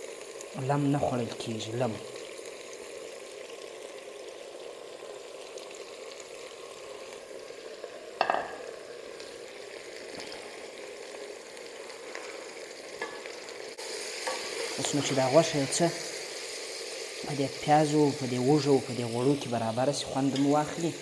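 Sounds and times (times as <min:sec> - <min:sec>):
meat sizzling in oil: 0:00.0 - 0:21.0.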